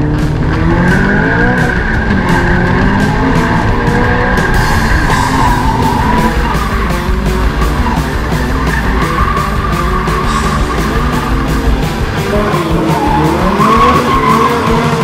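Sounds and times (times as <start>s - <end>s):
background music with steady beat: 0.0s - 15.0s
car engine revving: 0.0s - 15.0s
tyres squealing: 0.9s - 15.0s.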